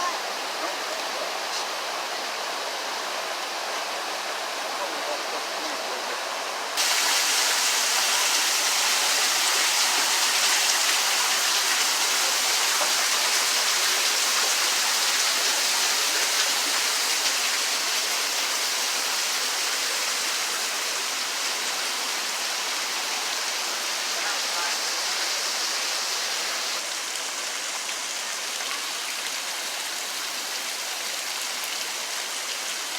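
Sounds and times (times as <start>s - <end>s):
rushing falling water: 0.0s - 32.9s.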